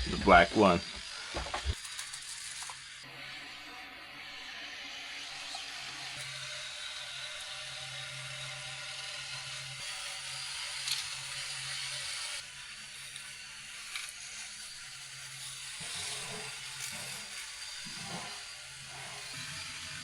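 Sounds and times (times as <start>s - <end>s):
small electric machine whirring: 0.0s - 20.0s.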